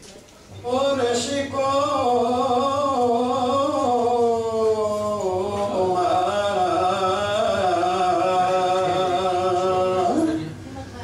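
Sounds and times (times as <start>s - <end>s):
man singing a lament: 0.6s - 10.4s.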